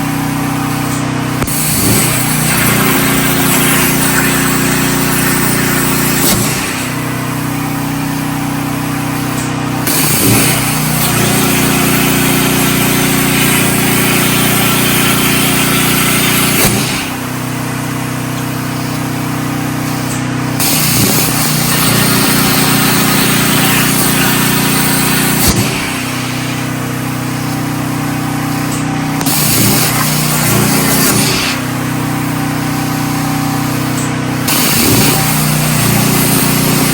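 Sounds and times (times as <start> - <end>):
generator engine running: 0.0 - 36.9
plasma torch hiss: 0.7 - 17.4, 18.6 - 36.9.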